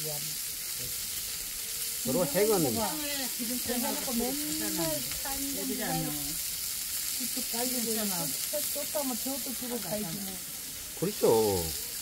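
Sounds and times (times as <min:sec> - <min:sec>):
meat sizzling on a grilling stone: 0:00.0 - 0:12.0
people talking quietly: 0:00.0 - 0:12.0.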